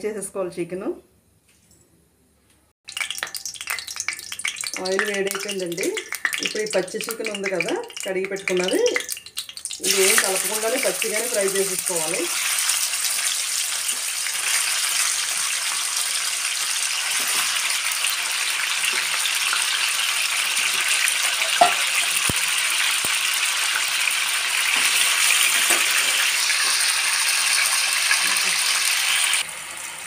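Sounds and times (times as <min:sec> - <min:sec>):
chicken sizzling in hot oil: 0:02.9 - 0:30.0.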